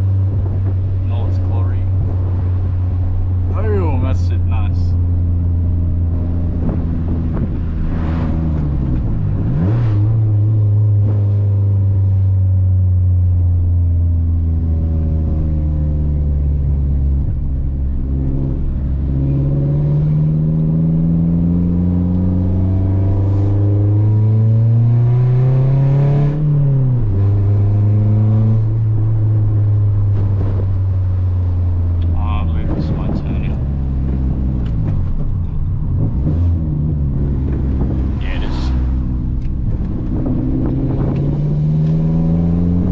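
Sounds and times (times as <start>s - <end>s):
car engine accelerating through gears: 4.9s - 42.9s.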